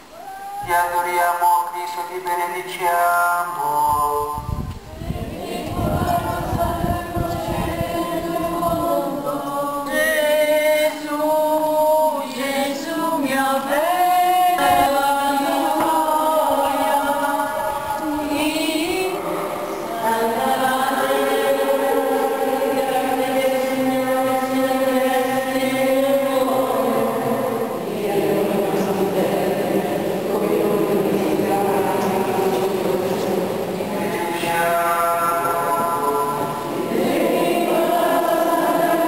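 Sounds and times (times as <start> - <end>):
crowd singing a hymn: 0.0 - 39.0.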